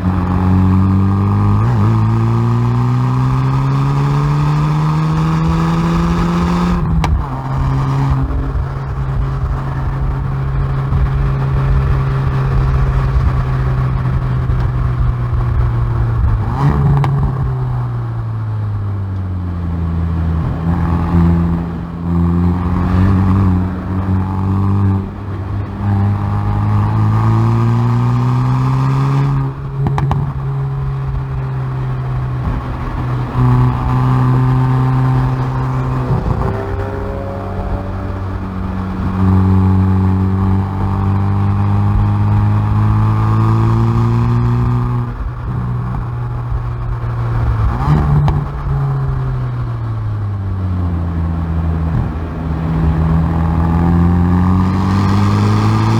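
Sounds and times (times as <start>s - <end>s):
car exhaust revving: 0.0s - 55.9s.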